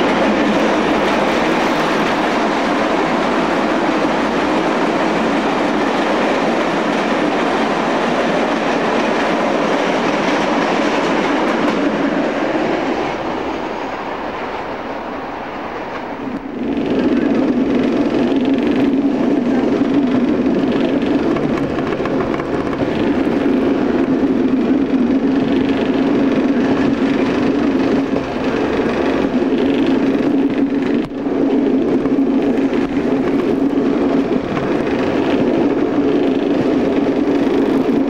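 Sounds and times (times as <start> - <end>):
train diesel engine drone: 0.0 - 38.0
wheel and rail noise: 0.0 - 38.0.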